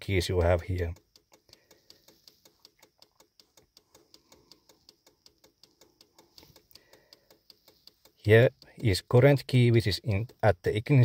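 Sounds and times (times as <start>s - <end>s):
faint even ticking: 0.0s - 11.0s.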